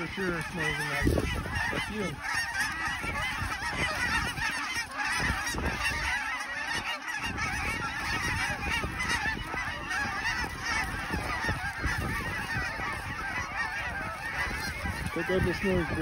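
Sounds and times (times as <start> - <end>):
flock of geese honking: 0.0 - 16.0
wind buffeting microphone: 0.0 - 16.0.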